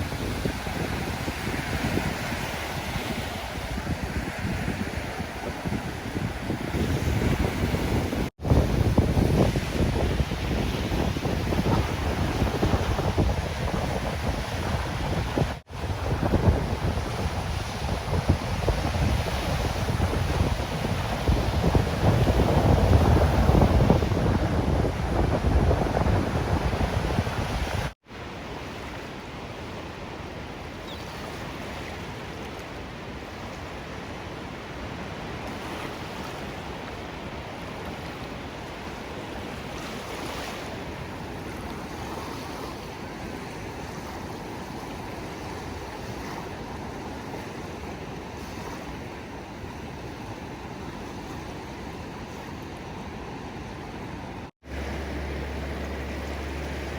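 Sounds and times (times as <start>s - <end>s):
ocean surf washing: 0.0s - 56.9s.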